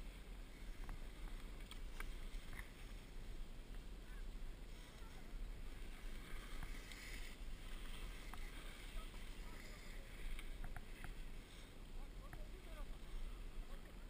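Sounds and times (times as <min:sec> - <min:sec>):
skis sliding over snow: 0:00.0 - 0:14.0.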